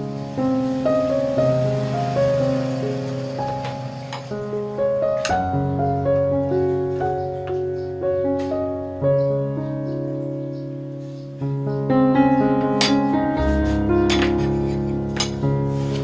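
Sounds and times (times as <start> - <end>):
piano instrumental music: 0.0 - 16.0.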